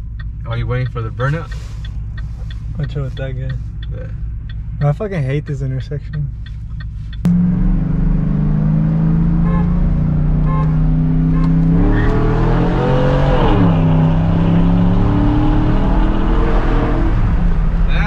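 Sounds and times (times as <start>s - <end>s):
truck exhaust accelerating: 0.0s - 18.0s.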